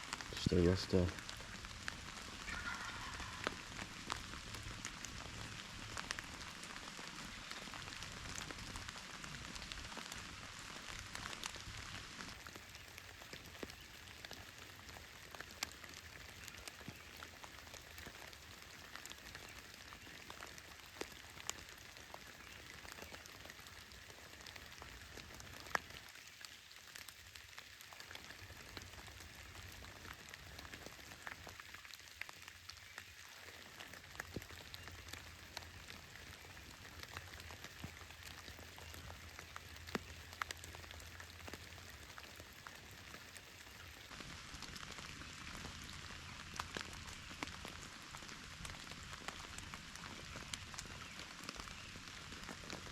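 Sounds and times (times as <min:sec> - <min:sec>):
light rain falling: 0:00.0 - 0:52.9
raindrops ticking close by: 0:00.0 - 0:52.9.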